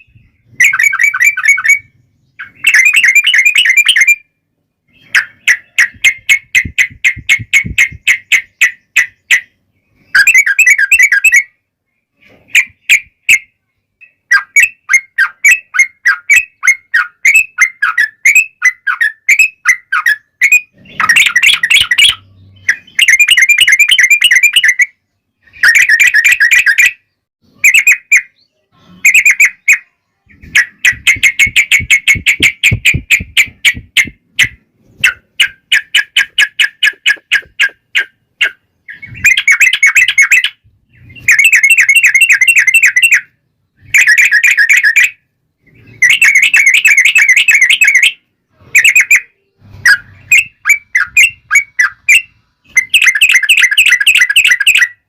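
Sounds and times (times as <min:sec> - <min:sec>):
bird singing chattering phrases: 0:00.0 - 0:55.0.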